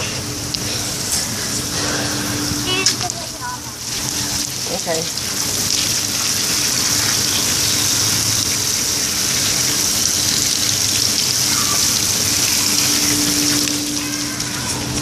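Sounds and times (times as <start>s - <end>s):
water running from hose: 0.0s - 15.0s.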